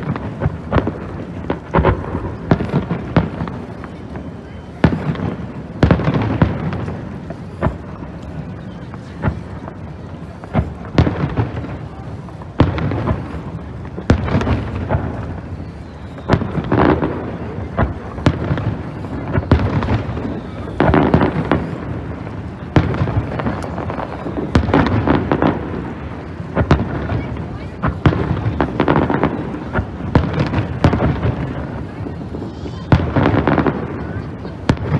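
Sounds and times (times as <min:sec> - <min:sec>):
fireworks bursting with booms: 0:00.0 - 0:34.9.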